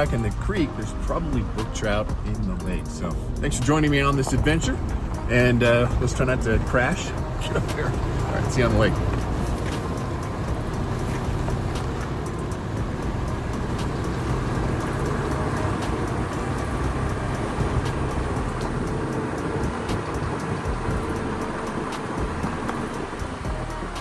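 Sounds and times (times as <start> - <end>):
engine and tyres rumbling: 0.0 - 24.0.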